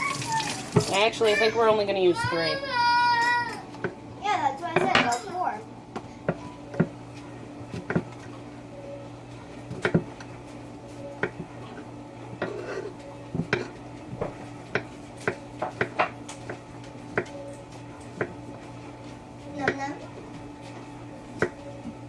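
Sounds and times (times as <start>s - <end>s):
steady low hum: 0.7s - 22.0s.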